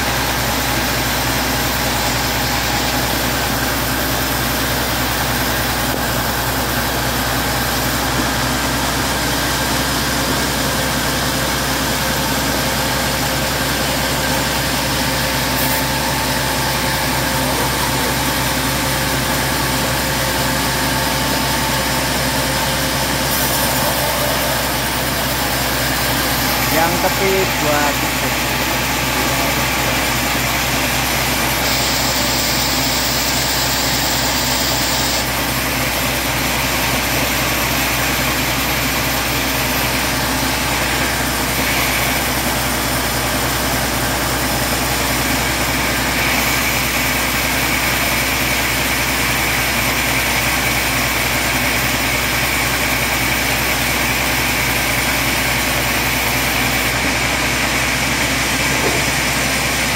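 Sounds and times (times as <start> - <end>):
band saw cutting wood: 0.0 - 9.2, 10.8 - 59.9.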